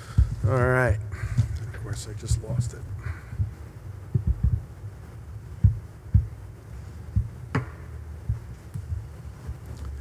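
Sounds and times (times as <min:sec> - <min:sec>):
low steady hum: 0:00.0 - 0:10.0
low muffled thumps: 0:00.1 - 0:09.7.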